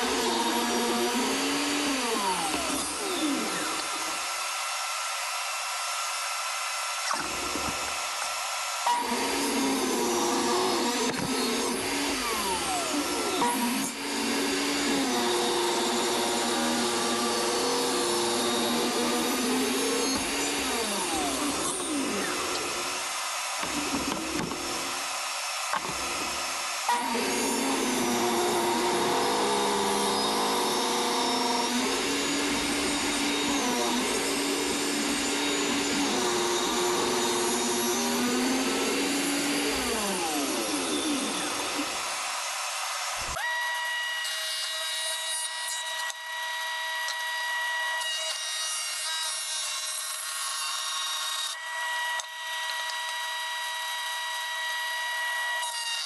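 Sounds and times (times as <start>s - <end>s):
table saw cutting wood: 0.0s - 56.0s.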